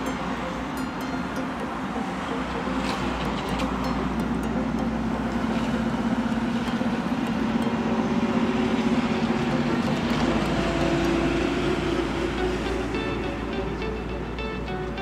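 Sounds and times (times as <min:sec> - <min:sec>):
car engine running: 0:01.7 - 0:13.9.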